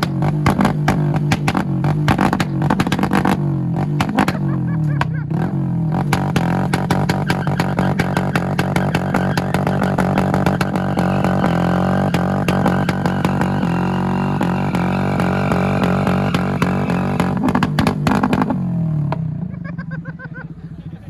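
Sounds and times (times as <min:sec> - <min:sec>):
car engine at high revs: 0:00.0 - 0:19.8.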